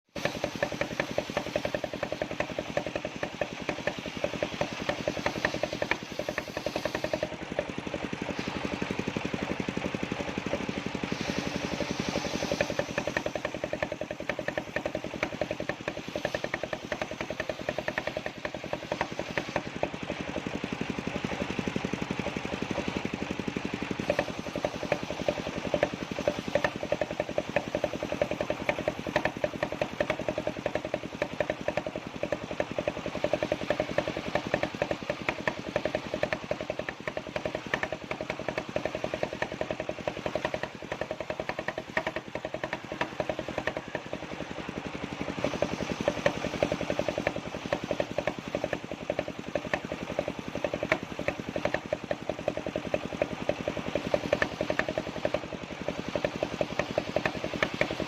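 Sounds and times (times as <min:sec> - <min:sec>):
sawmill engine running: 0:00.1 - 0:58.0.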